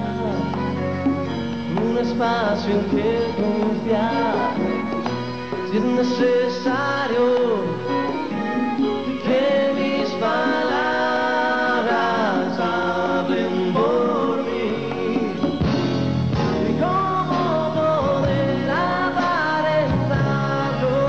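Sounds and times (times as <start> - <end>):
man singing: 0.0 - 0.8, 1.7 - 15.8, 16.4 - 21.0
live band music: 0.0 - 21.0.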